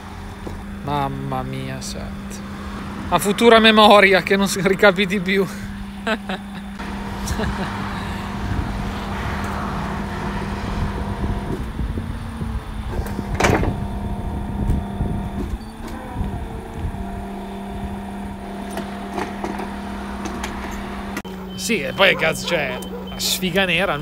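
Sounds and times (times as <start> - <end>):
winch motor humming: 0.0 - 24.0.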